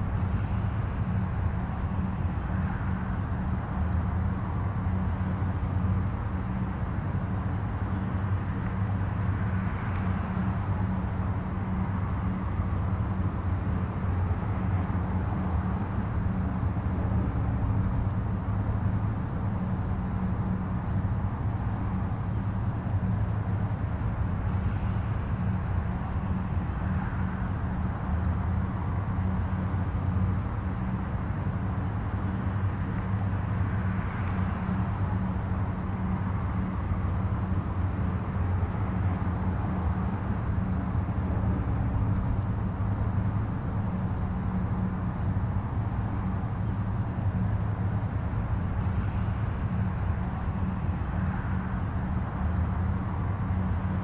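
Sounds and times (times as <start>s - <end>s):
distant highway traffic rumble: 0.0s - 54.0s.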